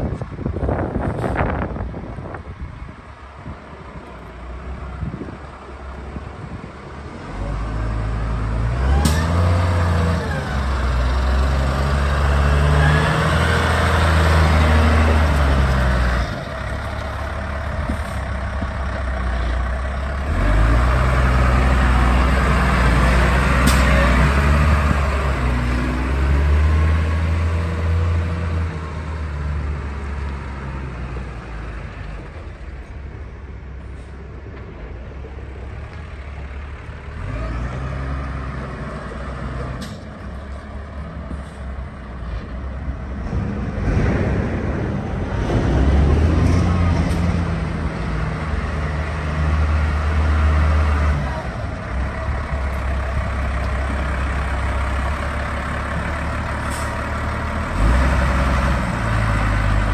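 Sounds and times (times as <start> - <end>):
tractor diesel engine running: 0.0 - 26.9, 29.8 - 59.9.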